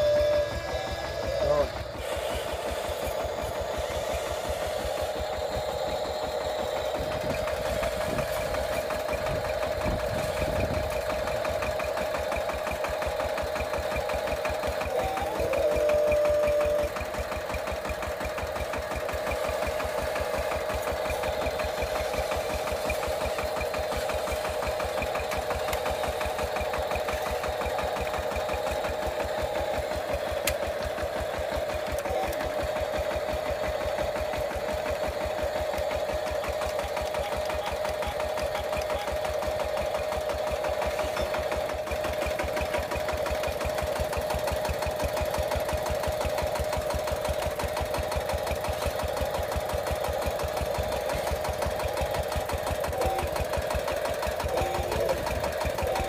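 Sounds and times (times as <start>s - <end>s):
small engine chugging with whine: 0.0s - 56.0s.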